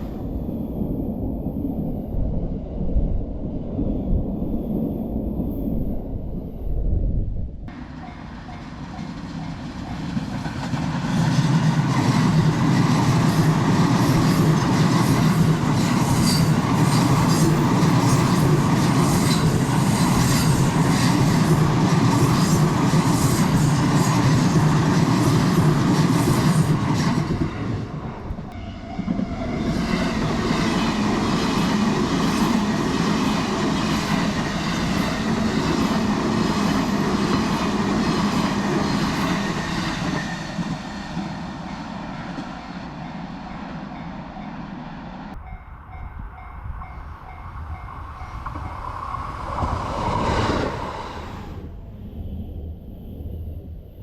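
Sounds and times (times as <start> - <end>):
train passing: 0.0 - 6.7, 7.6 - 54.0.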